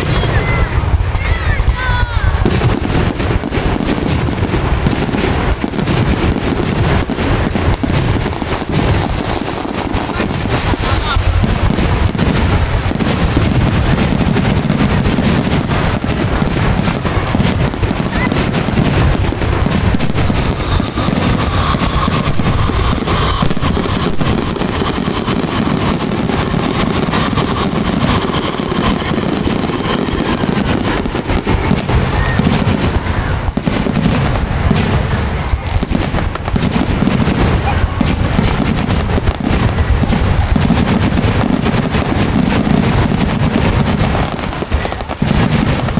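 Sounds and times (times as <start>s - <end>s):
fireworks bursting and crackling: 0.0s - 45.9s.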